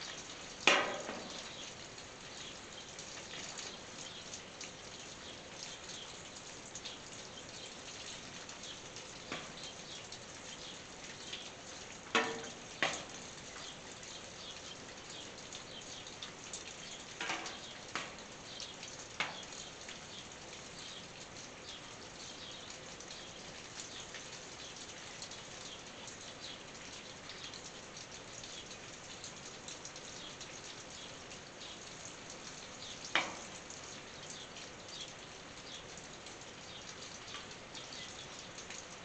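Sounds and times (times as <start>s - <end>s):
rain on a tin roof: 0.0s - 39.0s.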